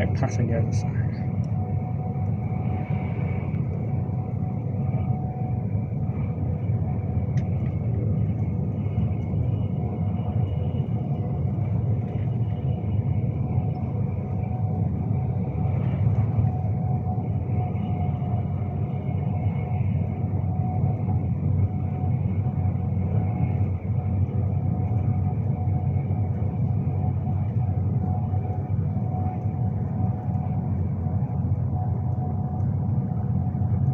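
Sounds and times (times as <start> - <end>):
faint steady whine: 0.0 - 33.9
train interior rumble: 0.0 - 33.9.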